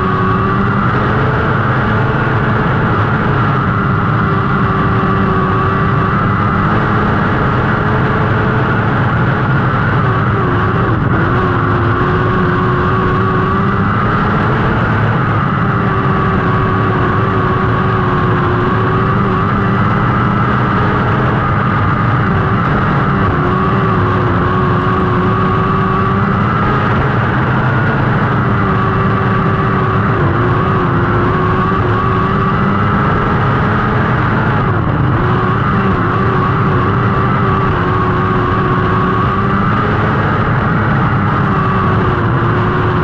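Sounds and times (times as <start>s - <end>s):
race car engines at high revs: 0.0s - 43.0s.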